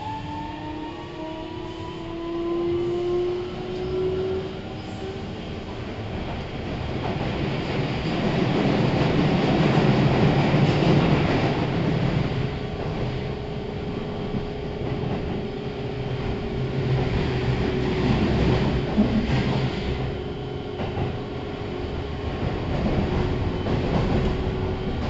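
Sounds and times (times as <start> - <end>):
train wheel and rail rumble: 0.0 - 25.0.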